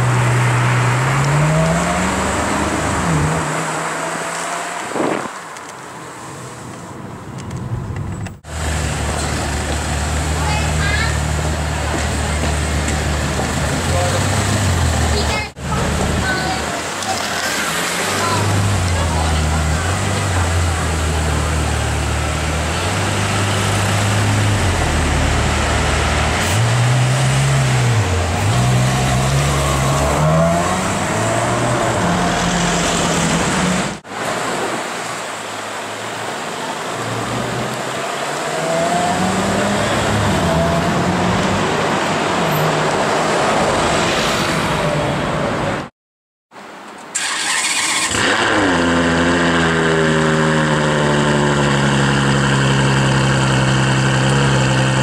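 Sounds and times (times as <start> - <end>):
car engine revving and accelerating: 0.0 - 5.3, 8.4 - 34.5, 37.2 - 45.2, 47.2 - 55.0.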